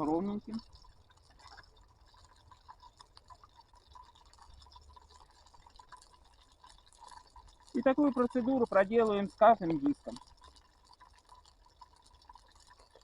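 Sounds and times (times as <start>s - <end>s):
faint small ticks and crackles: 0.0s - 13.0s.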